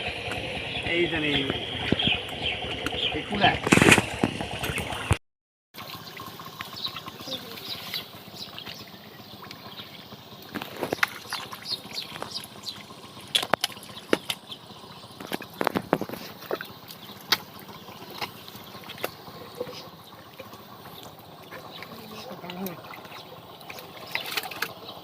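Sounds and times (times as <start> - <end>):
muddy water splashing: 0.0 - 5.2, 5.8 - 25.0.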